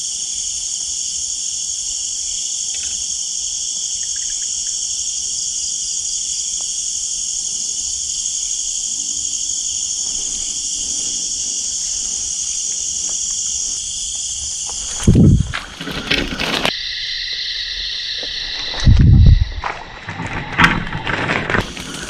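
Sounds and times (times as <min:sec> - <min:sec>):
night insects chorus: 0:00.0 - 0:22.0.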